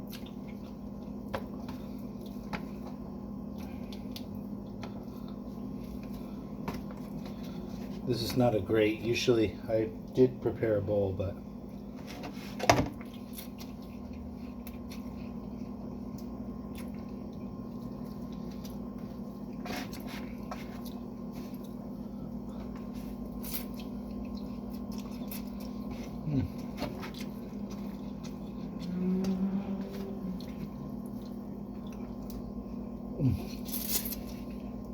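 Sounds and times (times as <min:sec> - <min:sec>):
wet eating sounds: 0:00.0 - 0:09.2, 0:12.6 - 0:34.9
steady low hum: 0:00.0 - 0:34.9.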